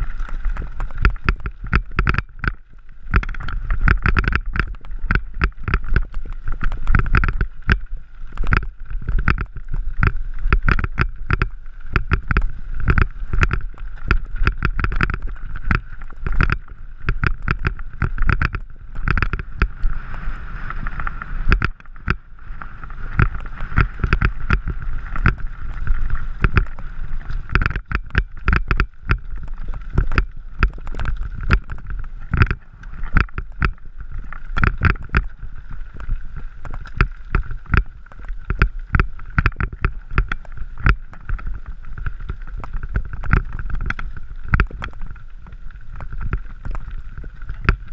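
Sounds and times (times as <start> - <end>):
bike rattling over rocks: 0.0 - 47.9.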